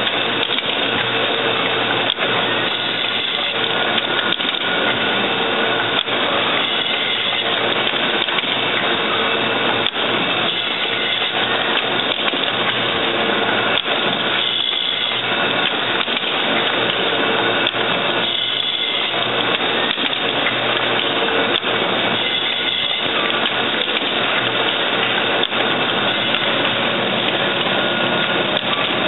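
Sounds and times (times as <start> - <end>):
sharp machine clicks: 0.0 - 5.0, 5.8 - 9.0, 9.7 - 13.1, 13.7 - 29.0
machine clattering: 0.0 - 29.0.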